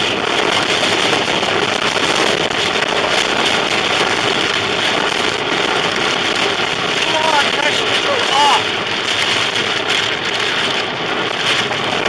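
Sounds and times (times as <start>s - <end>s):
road noise inside car: 0.0s - 12.0s
storm wind and rain: 0.0s - 12.0s.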